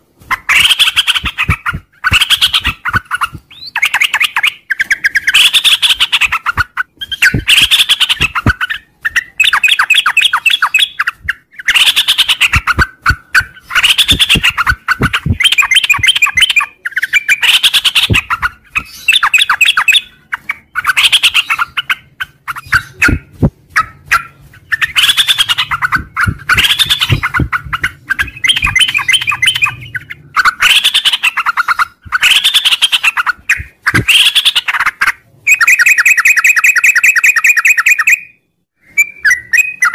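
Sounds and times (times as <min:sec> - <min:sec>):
bulbul bubbly chattering song: 0:00.3 - 0:37.5.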